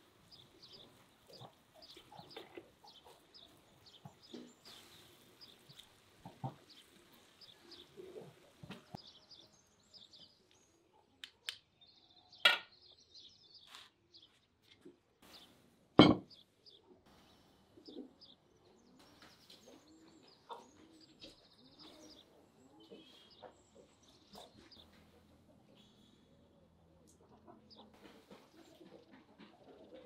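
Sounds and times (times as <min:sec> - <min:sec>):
clucking or cooing bird calls: 0:00.0 - 0:15.5, 0:16.2 - 0:30.0
small birds chirping: 0:00.0 - 0:30.0.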